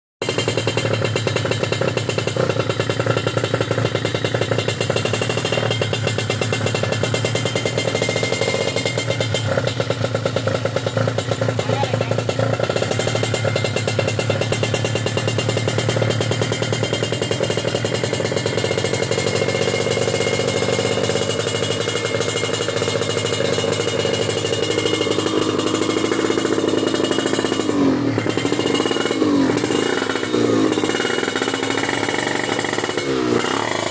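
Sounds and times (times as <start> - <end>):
two-stroke motorcycle engine running: 0.2 - 33.9.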